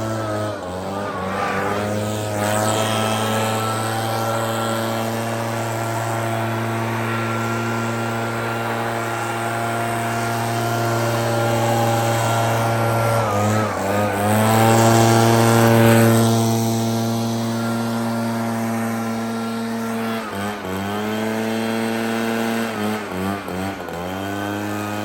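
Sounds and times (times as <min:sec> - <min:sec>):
backpack blower engine running: 0:00.0 - 0:25.0.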